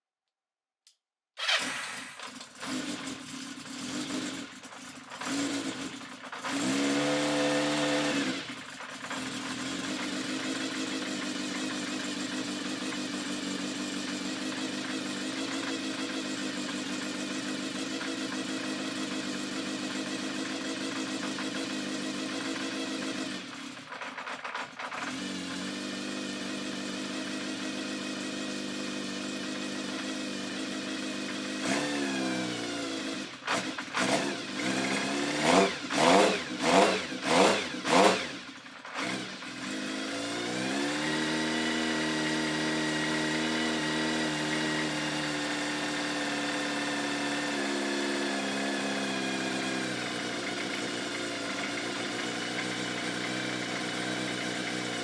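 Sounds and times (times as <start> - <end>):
engine revving: 1.4 - 23.8, 24.9 - 55.0
motorcycle engine idling: 1.4 - 31.7, 32.5 - 55.0.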